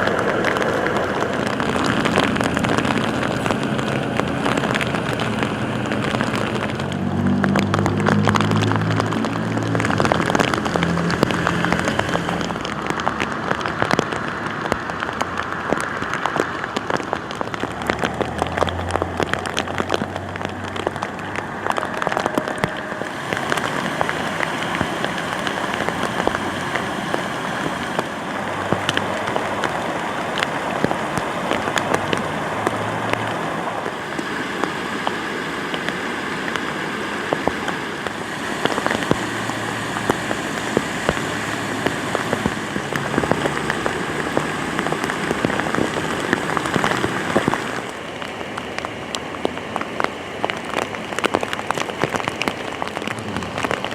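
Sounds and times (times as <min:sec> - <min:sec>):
heavy rain falling: 0:00.0 - 0:53.9
raindrops pattering on hard surfaces: 0:00.0 - 0:53.9.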